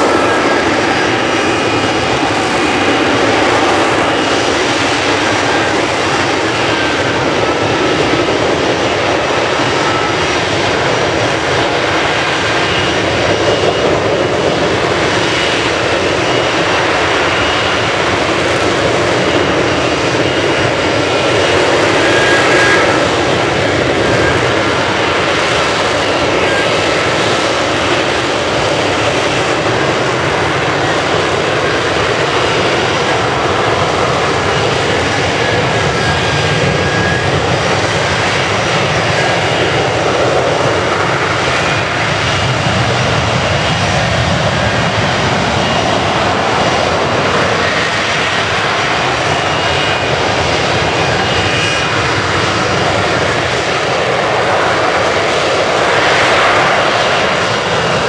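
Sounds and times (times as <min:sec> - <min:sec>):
jet engine roar: 0:00.0 - 0:58.0.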